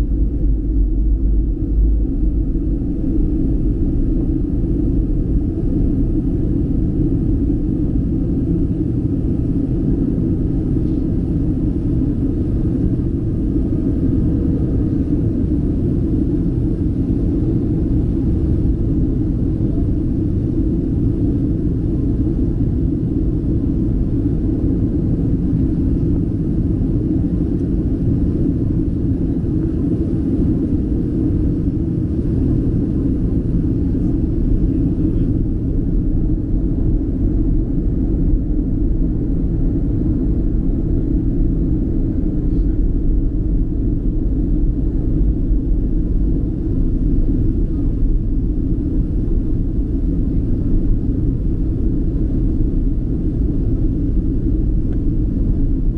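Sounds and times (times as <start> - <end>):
airliner cabin engine rumble: 0.0 - 55.9.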